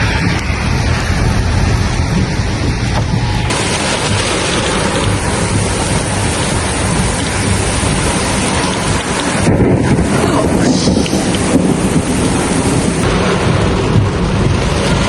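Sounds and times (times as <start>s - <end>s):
deep thunder rumble: 0.0s - 15.0s
heavy rain: 0.0s - 15.0s
wind on microphone: 0.0s - 15.0s.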